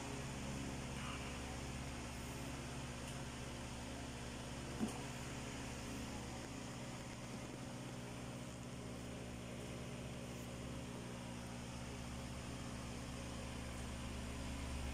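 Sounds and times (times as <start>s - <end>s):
aquarium equipment humming: 0.0s - 14.9s.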